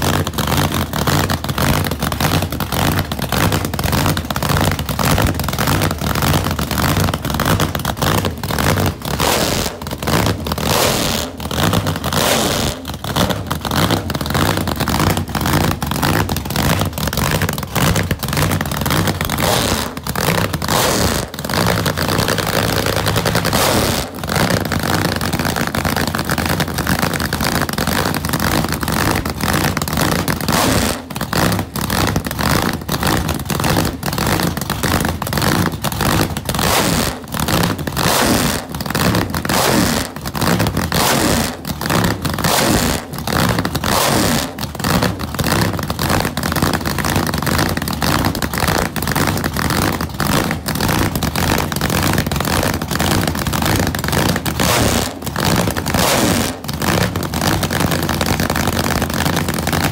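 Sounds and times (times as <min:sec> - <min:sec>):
loud choppy engine idling: 0:00.0 - 0:59.9.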